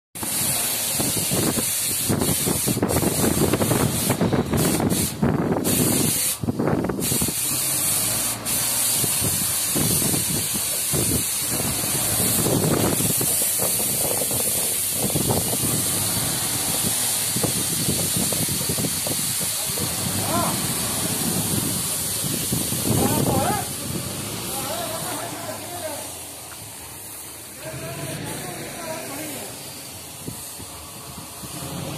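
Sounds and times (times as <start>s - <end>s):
paint spray gun hissing: 0.2s - 31.9s.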